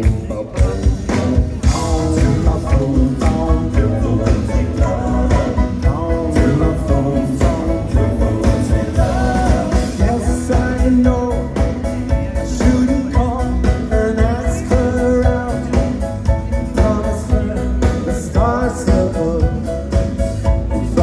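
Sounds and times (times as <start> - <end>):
drums steady beat: 0.0 - 21.0
person singing: 0.0 - 21.0
rock and roll band playing: 0.0 - 21.0.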